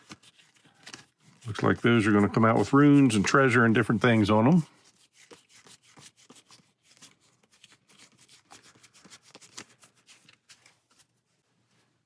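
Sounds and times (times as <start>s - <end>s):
cards clicking and rustling: 0.0s - 11.1s.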